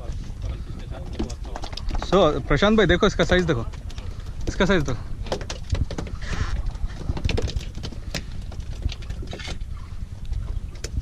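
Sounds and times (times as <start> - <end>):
water against boat: 0.0 - 11.0
wind rumble: 0.0 - 11.0.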